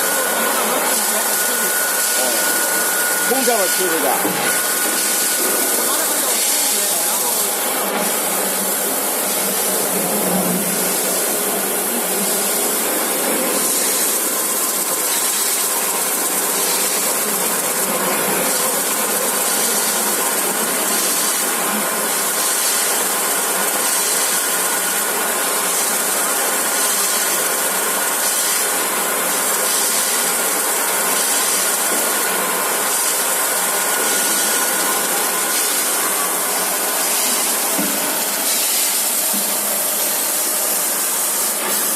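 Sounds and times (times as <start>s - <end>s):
industrial machine noise: 0.0s - 41.9s.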